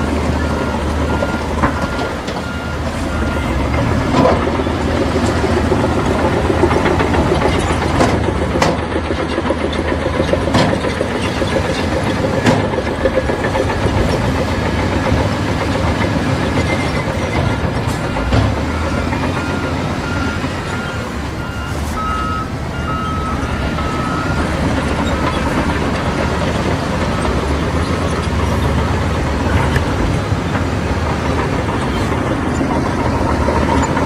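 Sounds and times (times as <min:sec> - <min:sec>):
bulldozer diesel engine running: 0:00.0 - 0:34.0
steel tracks clanking on rock: 0:00.1 - 0:34.0.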